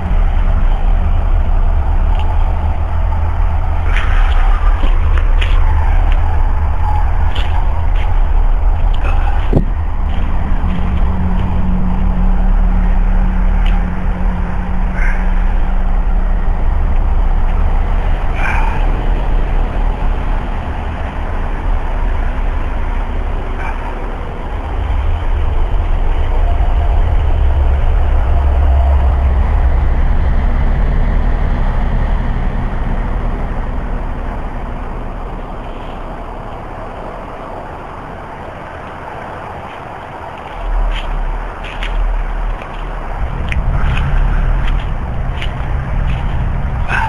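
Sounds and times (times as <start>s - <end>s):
deep rumbling drone: 0.0s - 47.0s
steady low hum: 0.0s - 47.0s.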